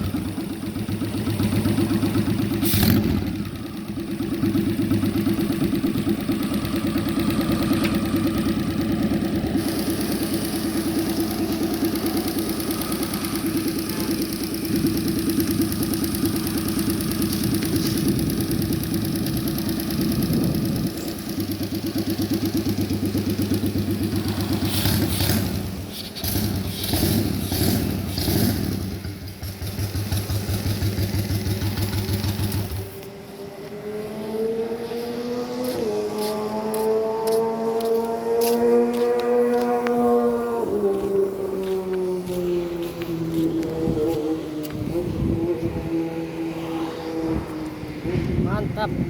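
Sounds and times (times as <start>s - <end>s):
motorcycle engine running steadily: 0.0s - 34.2s, 35.5s - 46.2s, 47.1s - 49.0s.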